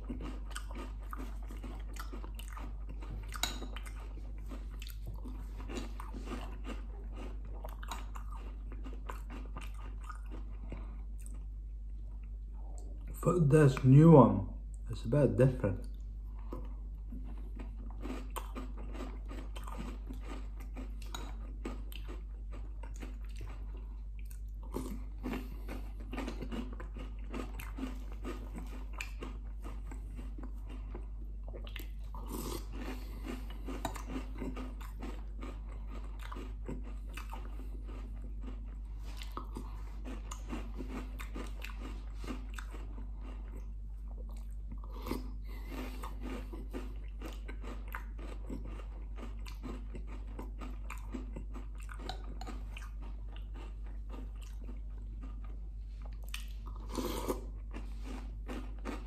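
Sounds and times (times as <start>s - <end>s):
crunchy cereal chewing: 0.0s - 14.0s, 15.4s - 59.0s
steady low hum: 0.0s - 59.0s.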